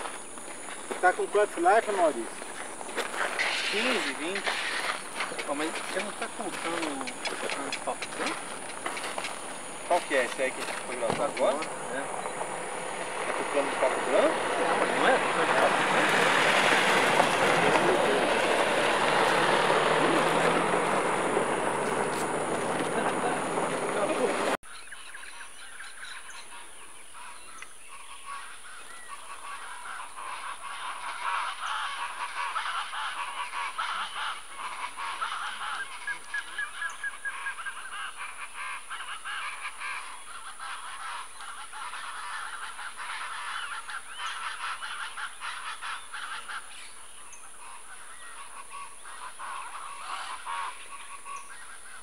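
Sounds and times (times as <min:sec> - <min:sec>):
birds honking calls: 0:00.0 - 0:52.0.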